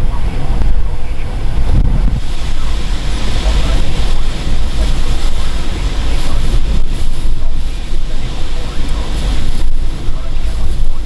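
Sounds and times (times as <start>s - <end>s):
hurricane wind buffeting microphone: 0.0s - 11.0s.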